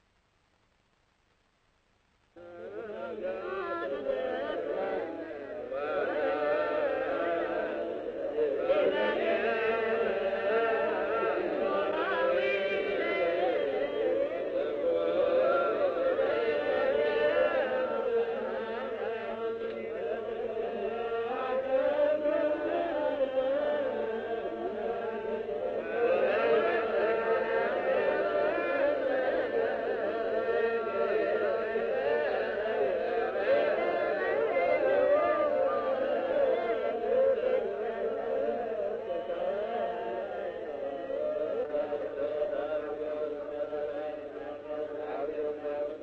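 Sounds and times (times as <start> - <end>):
many voices chanting prayers: 2.4 - 46.0.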